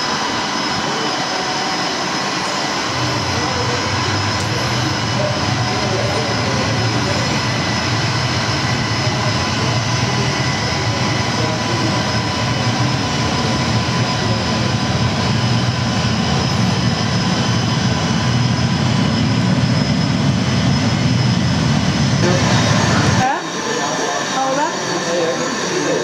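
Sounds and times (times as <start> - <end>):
engine rumble: 0.0 - 24.4
jet engine whine over loudspeakers: 0.0 - 26.0.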